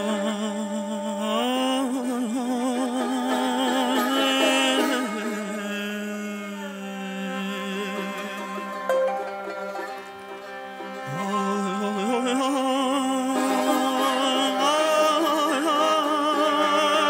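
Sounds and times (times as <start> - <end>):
lute melody with ornaments: 0.0 - 17.0.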